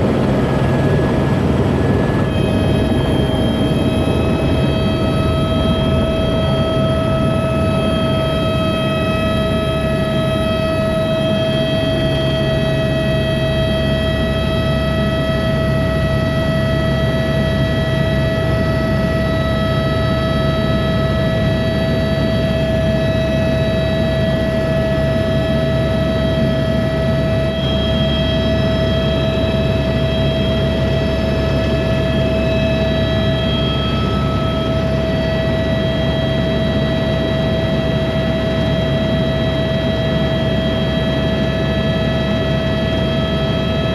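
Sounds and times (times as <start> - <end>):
machine drone with whine: 0.0 - 43.9.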